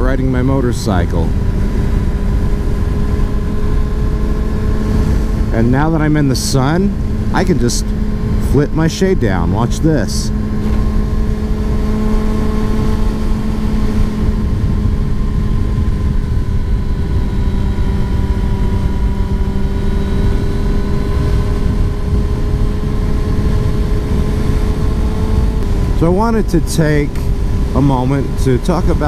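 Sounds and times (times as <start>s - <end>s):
motorcycle engine cruising: 0.0s - 29.0s
wind noise on microphone: 0.0s - 29.0s.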